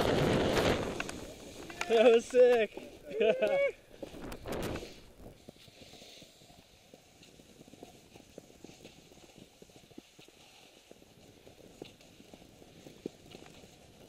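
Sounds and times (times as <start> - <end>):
skis crunching on snow: 0.0 - 14.0
skis hissing over snow: 0.0 - 14.0.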